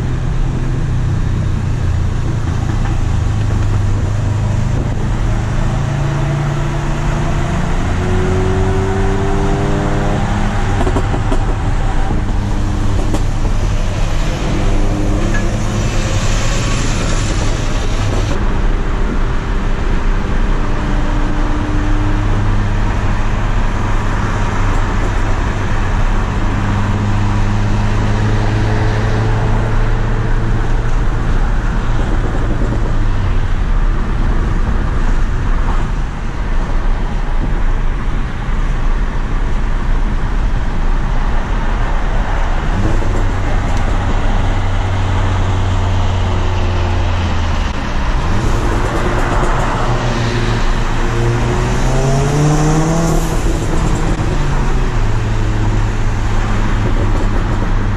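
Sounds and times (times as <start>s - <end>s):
car engine drone: 0.0s - 57.9s
tyre and road noise: 0.0s - 57.9s.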